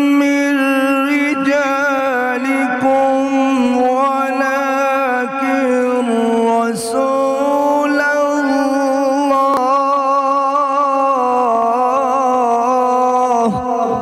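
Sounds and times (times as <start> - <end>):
man reciting melodically into microphone: 0.0 - 14.0.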